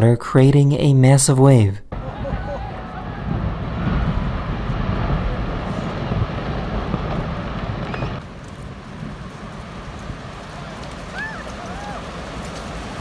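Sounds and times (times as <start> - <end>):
surging wave: 1.9 - 13.0
glacier ice collapsing roar: 2.0 - 13.0.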